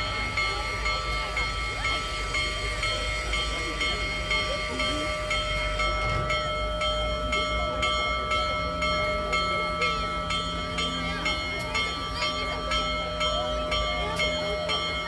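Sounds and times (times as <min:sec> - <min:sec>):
faint voices: 0:00.0 - 0:15.0
steady ringing tones: 0:00.0 - 0:15.0.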